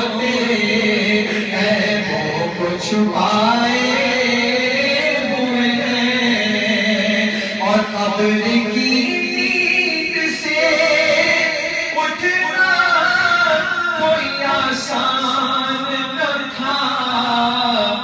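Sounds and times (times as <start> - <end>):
man singing devotional song: 0.0 - 18.0.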